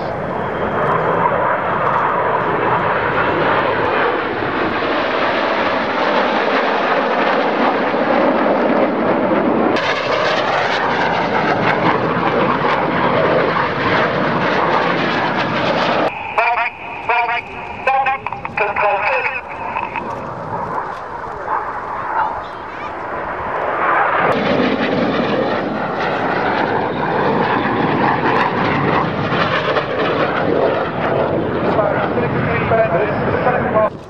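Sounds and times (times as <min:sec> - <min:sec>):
jets flying past: 0:00.0 - 0:34.0.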